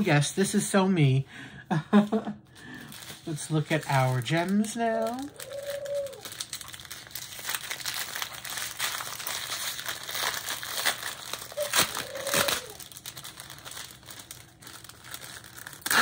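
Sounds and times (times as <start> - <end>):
plastic bags crinkling: 2.6 - 16.0
sharp plastic crackles: 2.7 - 16.0.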